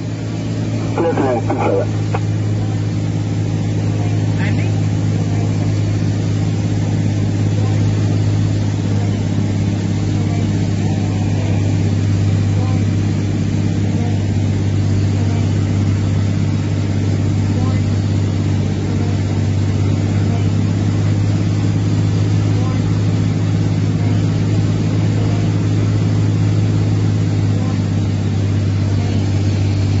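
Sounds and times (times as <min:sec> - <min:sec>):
motor engine droning: 0:00.0 - 0:30.0.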